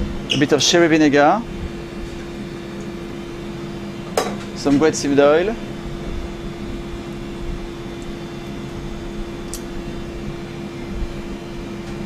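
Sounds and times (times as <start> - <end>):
kitchen machinery hum: 0.0 - 12.0.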